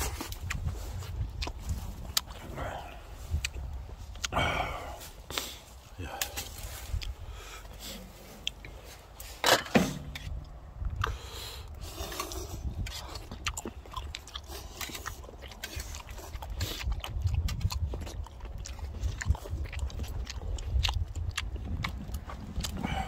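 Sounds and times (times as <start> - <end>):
chewing and biting food: 0.0 - 9.2, 10.1 - 23.0.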